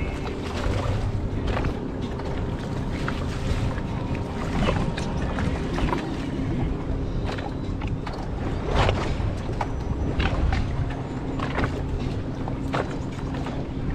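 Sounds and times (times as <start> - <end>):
water against boat: 0.0 - 13.9
wind buffeting microphone: 0.0 - 13.9.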